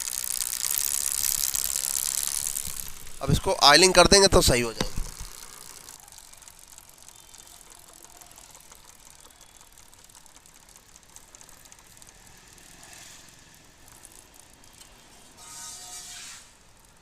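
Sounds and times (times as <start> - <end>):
drive chain clicking rattle: 0.0 - 15.4.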